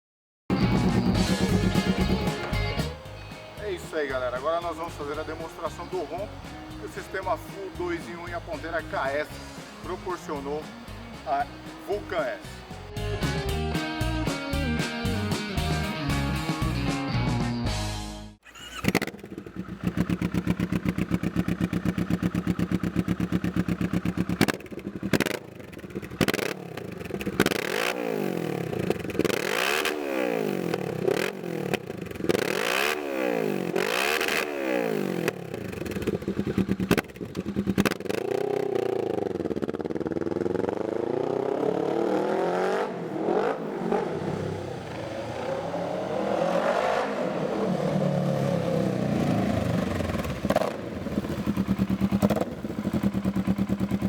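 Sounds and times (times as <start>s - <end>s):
motorcycle engine idling and revving: 0.5s - 13.8s, 18.2s - 54.0s.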